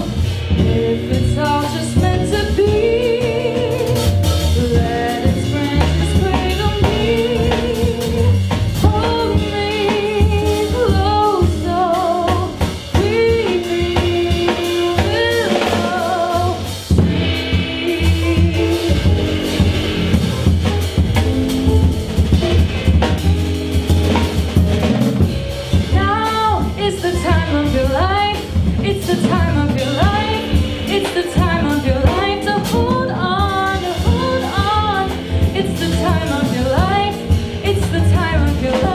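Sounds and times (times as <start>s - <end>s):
drum kit: 0.0s - 38.9s
live jazz band: 0.0s - 38.9s
woman singing jazz: 0.0s - 38.9s.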